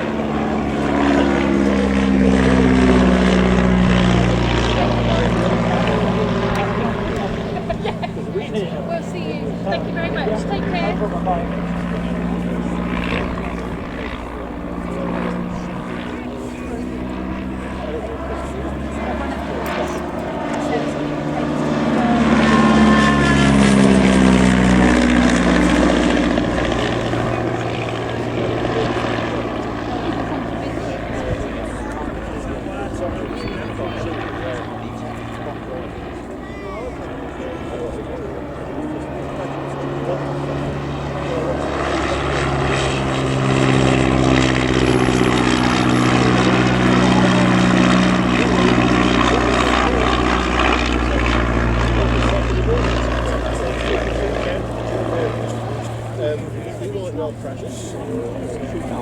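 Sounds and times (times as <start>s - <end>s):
biplane engine passing overhead: 0.0s - 59.0s.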